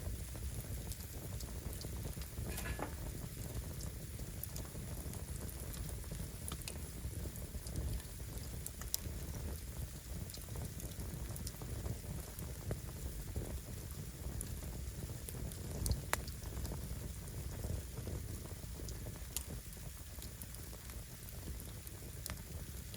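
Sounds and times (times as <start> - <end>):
firewood crackling and popping: 0.0 - 22.9.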